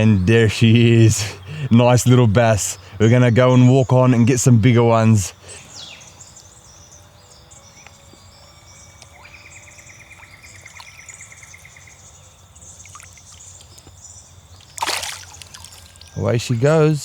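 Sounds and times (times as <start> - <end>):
high chirps: 2.4 - 17.0.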